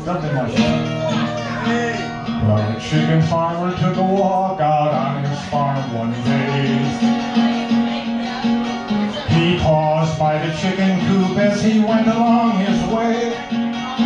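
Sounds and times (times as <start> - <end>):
man singing: 0.0 - 14.0
strummed acoustic guitar: 0.0 - 14.0.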